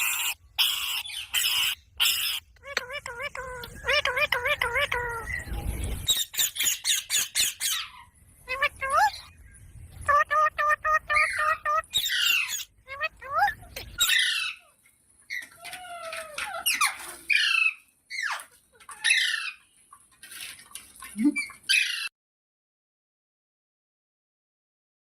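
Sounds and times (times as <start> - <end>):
parrots squawking and whistling: 0.0 - 19.7, 21.2 - 22.1.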